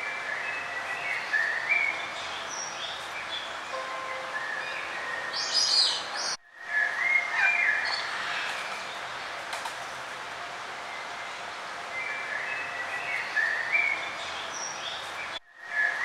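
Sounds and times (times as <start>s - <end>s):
songbirds singing and chirping: 0.0s - 9.1s, 11.8s - 16.0s
outdoor background hiss: 0.0s - 16.0s.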